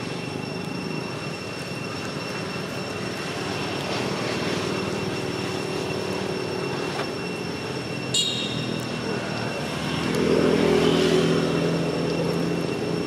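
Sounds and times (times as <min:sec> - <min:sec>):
high-pitched whining tones: 0:00.0 - 0:13.0.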